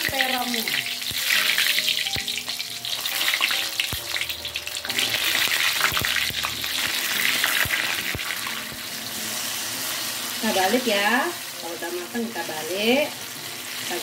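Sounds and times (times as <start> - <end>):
eggplant deep-frying in oil: 0.0 - 14.0.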